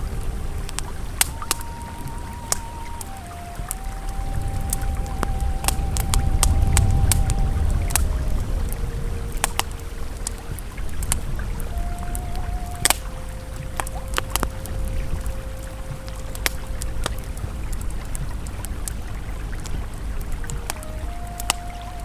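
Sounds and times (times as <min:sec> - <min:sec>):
campfire crackling and popping: 0:00.0 - 0:22.0
river flowing: 0:00.0 - 0:22.0
soft ambient music tones: 0:00.0 - 0:22.0.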